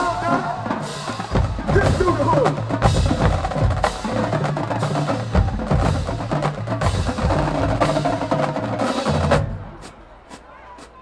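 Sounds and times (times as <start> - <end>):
marching drumline cadence: 0.0 - 11.0.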